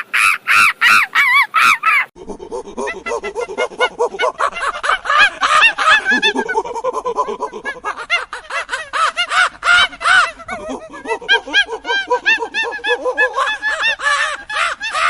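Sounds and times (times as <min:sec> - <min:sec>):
monkeys chattering: 0:00.0 - 0:15.0.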